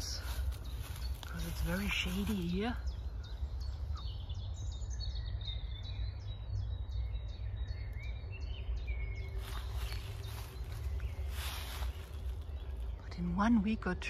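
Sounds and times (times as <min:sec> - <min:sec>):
low rumble: 0:00.0 - 0:14.0
songbirds chirping: 0:00.0 - 0:14.0.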